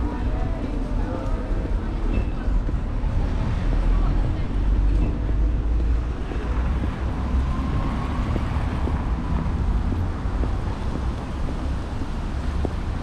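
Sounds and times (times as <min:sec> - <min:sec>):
cars driving past: 0:00.0 - 0:13.0
wind rumble on microphone: 0:00.0 - 0:13.0.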